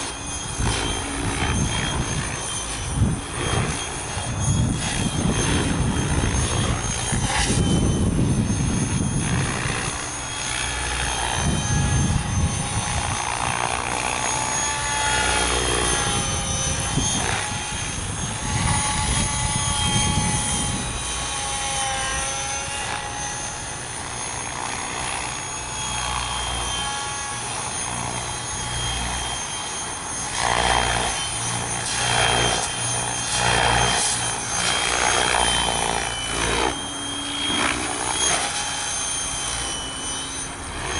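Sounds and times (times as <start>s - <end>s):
helicopter motor whine: 0.0s - 40.9s
rotor blades whooshing: 0.0s - 40.9s.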